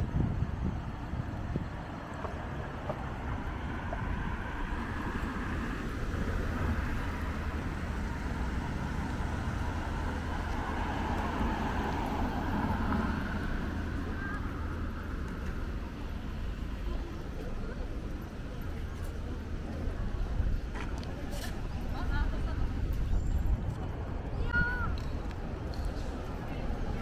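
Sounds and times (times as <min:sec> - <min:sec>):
cars passing: 0:00.0 - 0:27.0
vehicle engines rumbling: 0:00.0 - 0:27.0.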